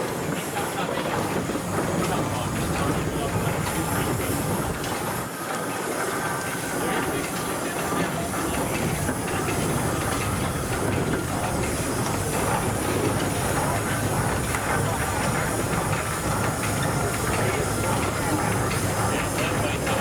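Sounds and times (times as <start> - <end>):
steam hiss: 0.0 - 20.0
traction engine mechanical noise: 0.0 - 20.0.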